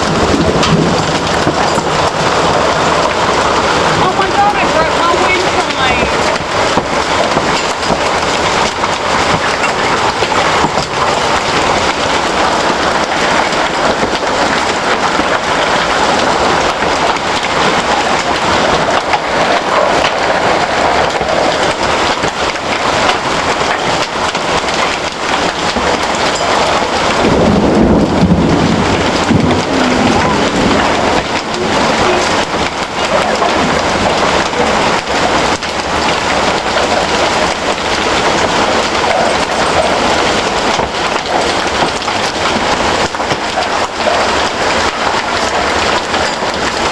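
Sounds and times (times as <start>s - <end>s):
deep rumble: 0.0s - 46.9s
hailstones clattering: 0.0s - 46.9s.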